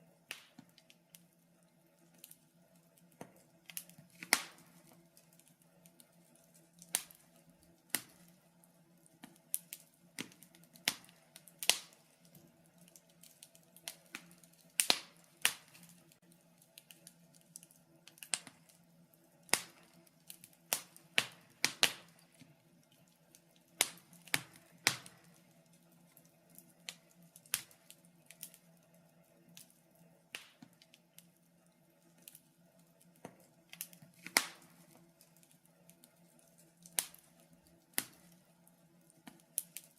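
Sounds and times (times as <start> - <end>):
wood fire popping and snapping: 0.0 - 39.9.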